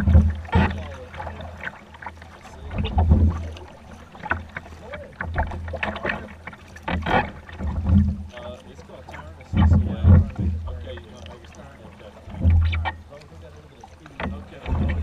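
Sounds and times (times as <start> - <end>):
kayak paddles splashing in water: 0.0 - 15.0.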